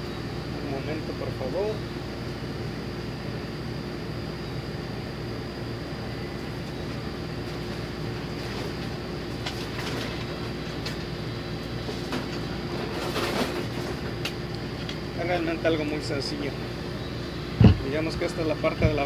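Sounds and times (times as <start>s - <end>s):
mechanical hum of shop: 0.0s - 19.0s
refrigeration hum: 0.0s - 19.0s.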